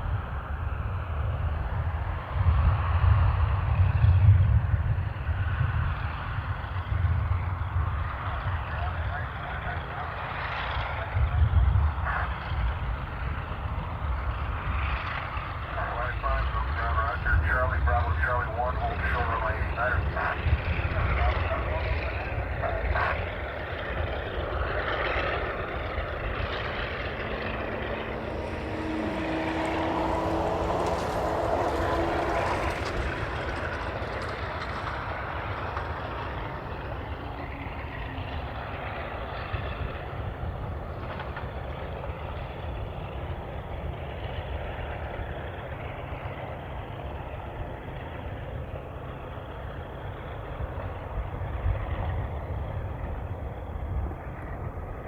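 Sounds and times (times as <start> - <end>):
aircraft passing by: 0.0 - 55.0
steady low rumble: 0.0 - 55.0.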